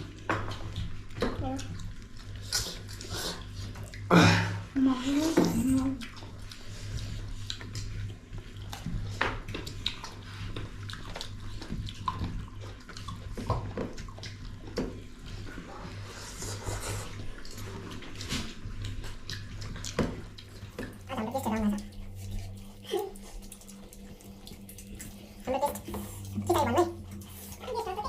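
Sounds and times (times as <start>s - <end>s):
low steady hum: 0.0s - 28.0s
wet chewing and slurping: 0.0s - 28.0s.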